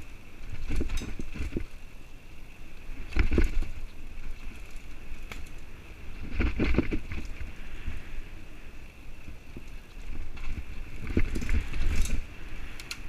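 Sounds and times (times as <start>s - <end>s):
bike rattling and clunking: 0.0s - 8.1s, 9.1s - 13.0s
bike tyres on dirt: 0.0s - 13.0s.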